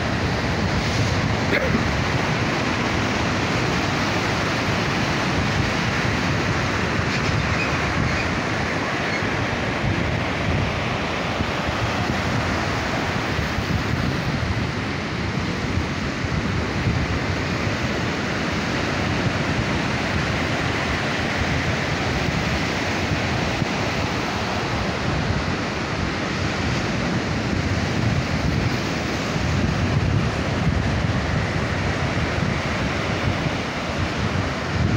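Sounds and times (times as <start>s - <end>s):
surf breaking on beach: 0.0s - 34.9s
wind buffeting microphone: 0.0s - 34.9s.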